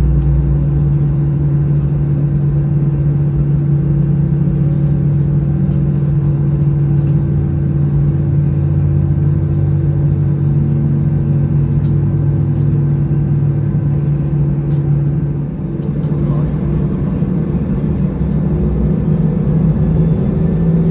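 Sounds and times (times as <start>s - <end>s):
airplane cabin drone: 0.0s - 20.9s.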